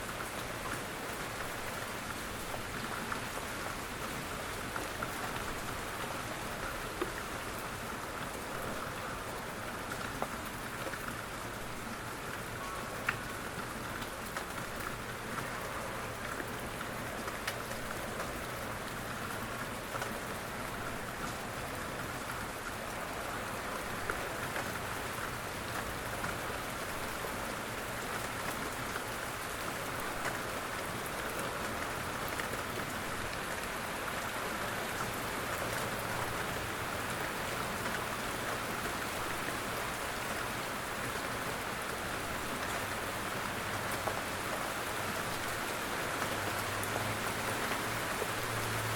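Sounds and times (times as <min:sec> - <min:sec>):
rain falling on a surface: 0:00.0 - 0:48.9.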